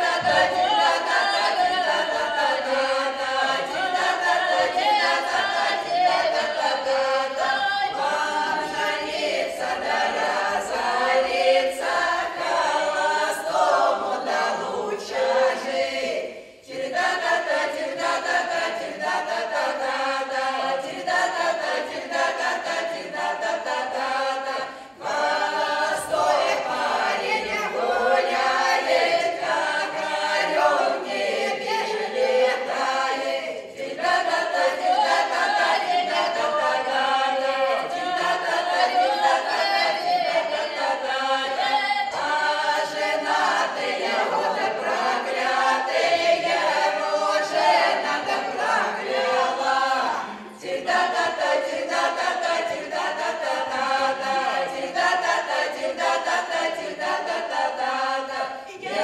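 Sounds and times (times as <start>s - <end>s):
women singing in chorus: 0.0s - 59.0s.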